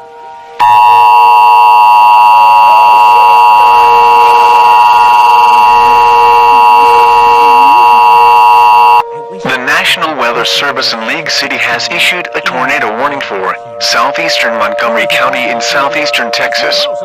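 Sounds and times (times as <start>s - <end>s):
two-tone alarm: 0.6s - 9.0s, 10.7s - 17.0s.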